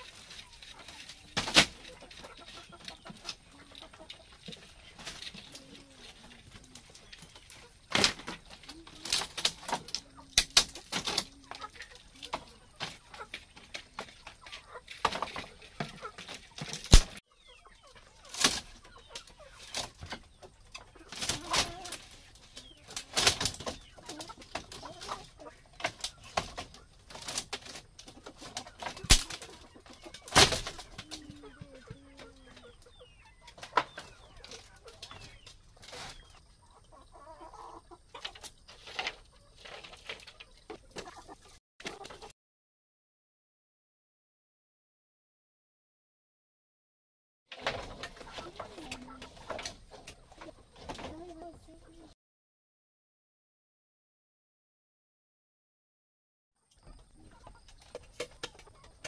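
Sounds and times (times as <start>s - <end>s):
chickens clucking: 0.0s - 42.4s, 47.5s - 52.2s, 56.6s - 59.0s.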